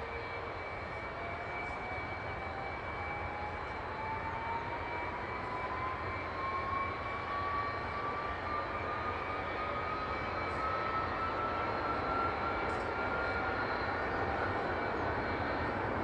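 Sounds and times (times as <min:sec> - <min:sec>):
jet engine whine rising: 0:00.0 - 0:16.0.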